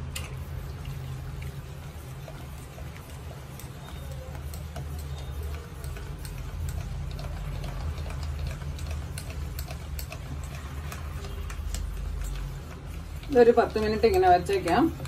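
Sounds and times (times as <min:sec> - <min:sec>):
whisk clicking against metal pot: 0:00.0 - 0:15.0.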